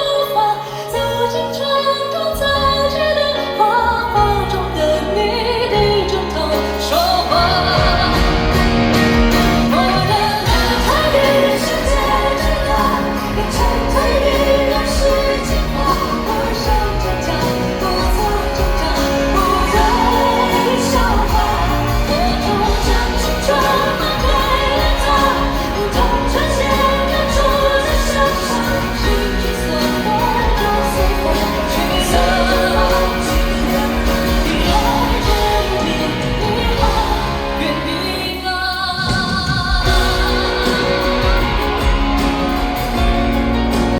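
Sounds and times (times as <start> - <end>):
band playing: 0.0 - 43.9
man singing with vibrato: 5.4 - 43.9.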